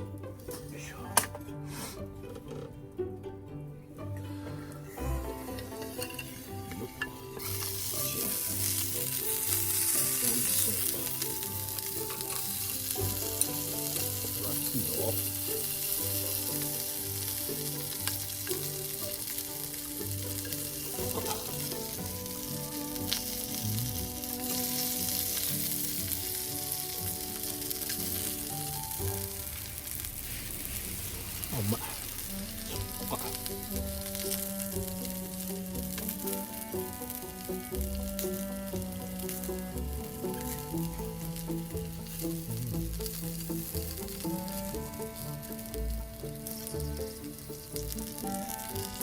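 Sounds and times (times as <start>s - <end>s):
soft background music: 0.0s - 49.0s
food sizzling in frying pan: 4.9s - 49.0s.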